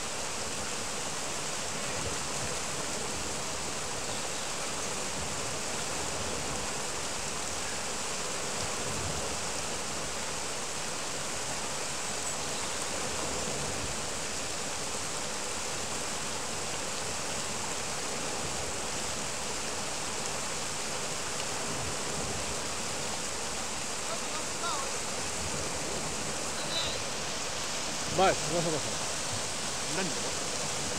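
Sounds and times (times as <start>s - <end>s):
water rushing over a weir: 0.0s - 30.9s.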